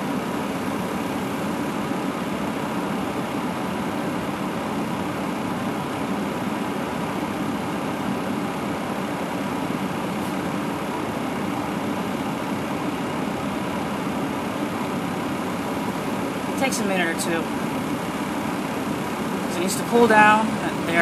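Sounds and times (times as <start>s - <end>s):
auxiliary power unit running: 0.0s - 21.0s
cockpit hum and hiss: 0.0s - 21.0s.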